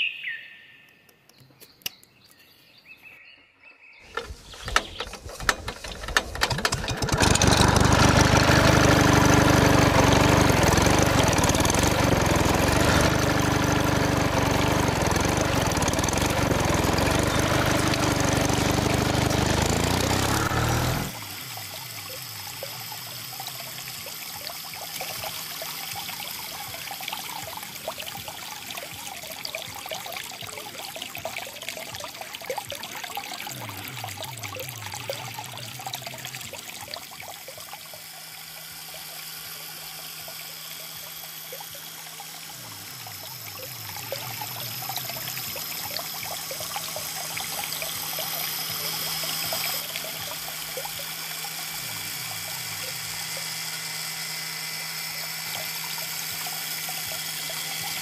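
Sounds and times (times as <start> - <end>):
water gushing into basin: 4.1 - 58.0.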